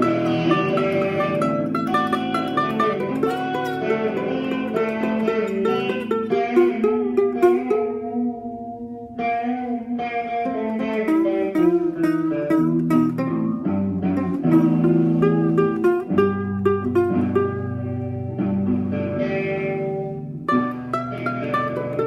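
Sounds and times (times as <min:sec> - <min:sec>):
guitar playing: 0:00.0 - 0:22.0.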